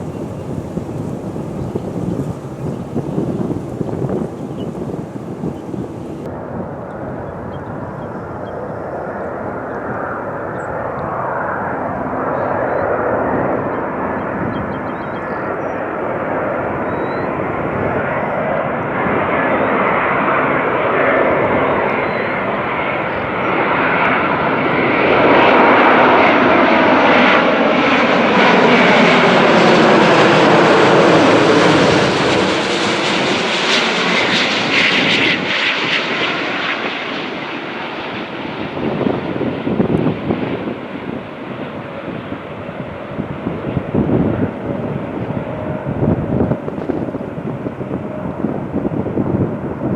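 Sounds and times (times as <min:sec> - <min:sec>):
jet airliner passing overhead: 0:00.0 - 0:49.9.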